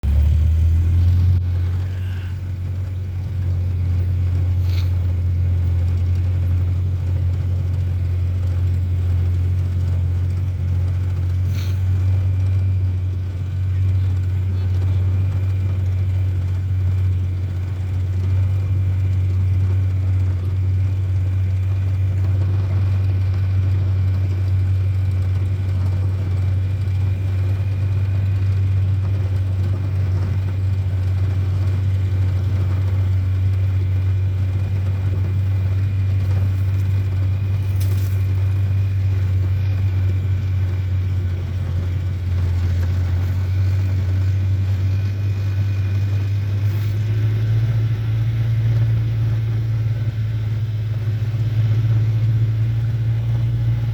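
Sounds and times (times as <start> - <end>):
vehicle engine drone: 0.0 - 53.9.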